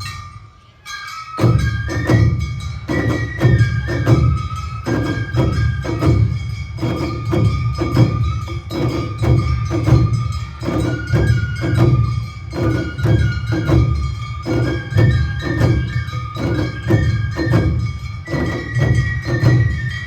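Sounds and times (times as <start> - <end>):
drums and bells beating: 0.0 - 20.0.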